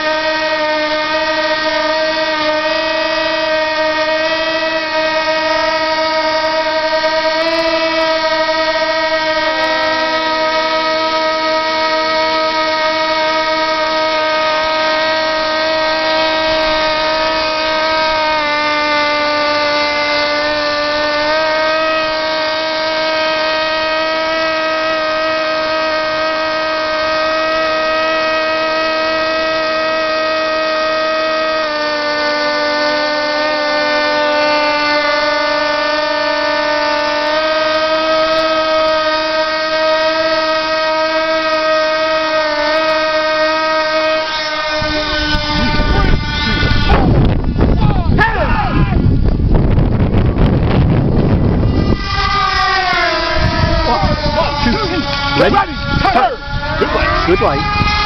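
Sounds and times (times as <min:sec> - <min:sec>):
model airplane engines whining: 0:00.0 - 0:58.0.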